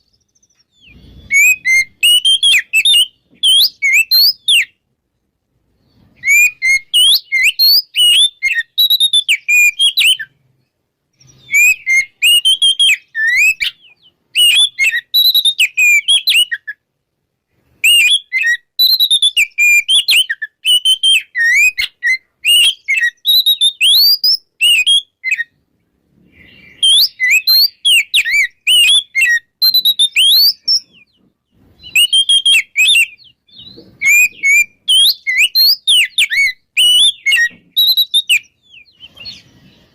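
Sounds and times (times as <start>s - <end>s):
bird singing whistled notes: 0.0s - 4.8s, 5.8s - 16.8s, 17.7s - 25.6s, 26.2s - 31.2s, 31.8s - 39.9s.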